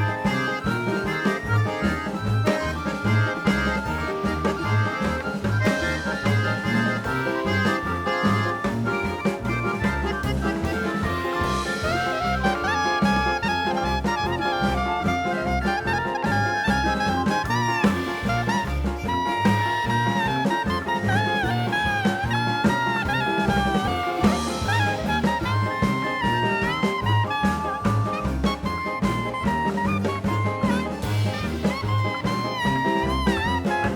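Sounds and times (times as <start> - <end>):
brass or saxophone melody: 0.0 - 33.9
upbeat jazz music: 0.0 - 33.9
walking bass: 0.0 - 33.9.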